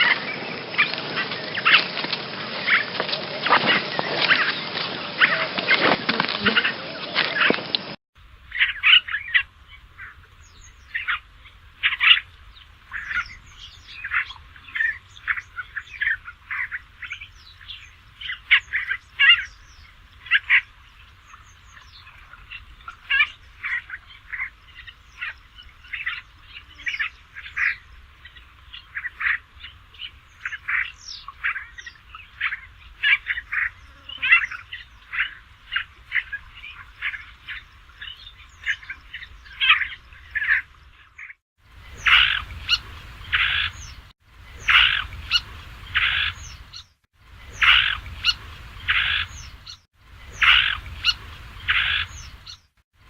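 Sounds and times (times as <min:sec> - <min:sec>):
reed warbler singing: 0:08.5 - 0:40.6, 0:41.2 - 0:52.7.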